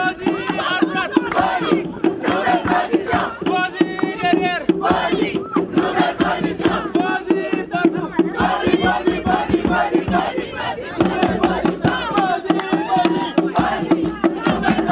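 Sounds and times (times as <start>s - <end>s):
crowd chanting: 0.0s - 14.9s
steady rhythmic beat: 0.0s - 14.9s.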